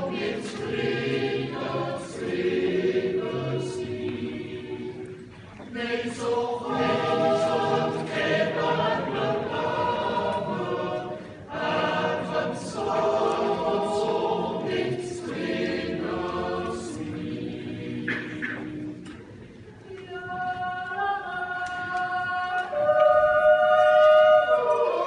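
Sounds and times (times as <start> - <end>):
choir singing a cappella: 0.0 - 25.0.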